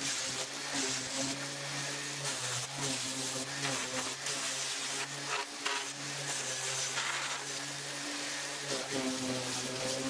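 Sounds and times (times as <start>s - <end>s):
orbital sander on sheet metal: 0.0s - 10.0s.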